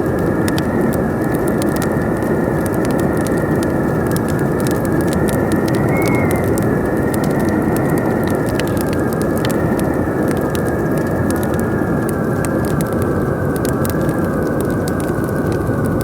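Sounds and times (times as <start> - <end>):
campfire crackling and popping: 0.0 - 16.0
howling wind whistling: 0.0 - 16.0.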